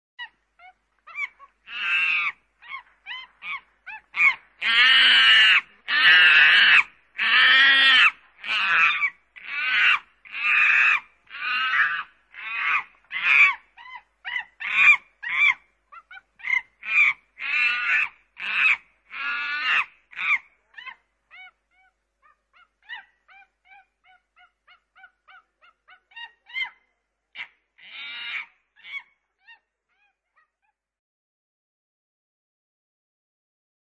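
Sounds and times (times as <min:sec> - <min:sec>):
monkey calling: 0:00.2 - 0:26.8, 0:27.4 - 0:30.8.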